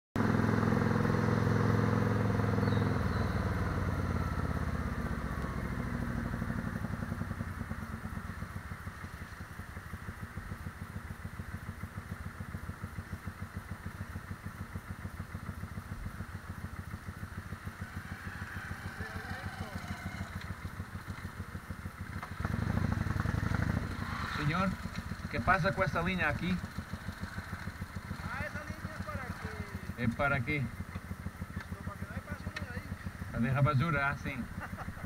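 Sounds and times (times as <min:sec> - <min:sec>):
motorcycle engine: 0:00.2 - 0:35.0.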